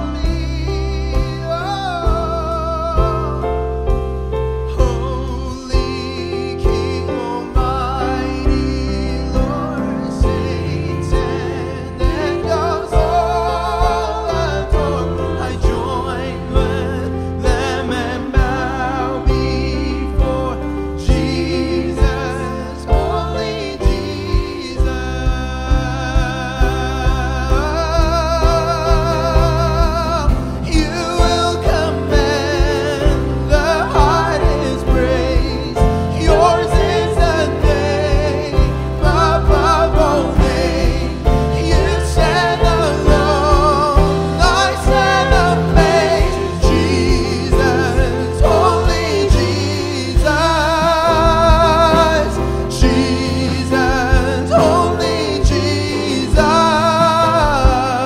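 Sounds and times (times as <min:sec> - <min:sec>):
bass: 0:00.0 - 0:58.0
group singing: 0:04.8 - 0:58.0
drum beat: 0:10.3 - 0:16.9, 0:17.5 - 0:58.0.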